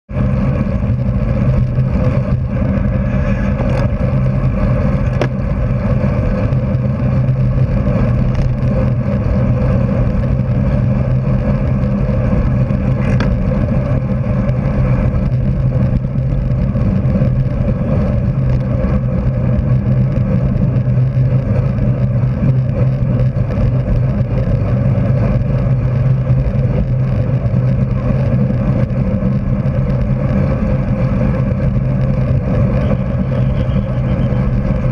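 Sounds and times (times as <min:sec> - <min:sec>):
wind rush on microphone: 0:00.0 - 0:34.9
bike tyre hum: 0:00.1 - 0:34.9.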